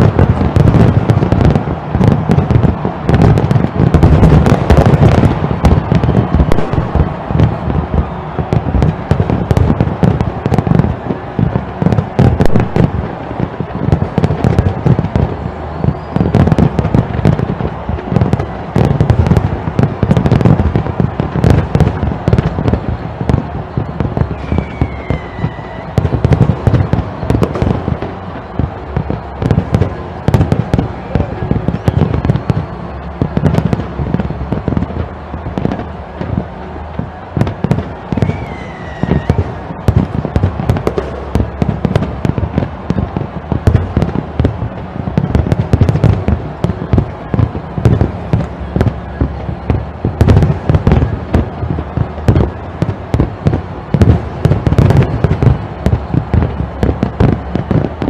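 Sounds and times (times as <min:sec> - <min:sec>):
fireworks bangs and booms: 0:00.0 - 0:58.0
fireworks crackling: 0:00.0 - 0:58.0.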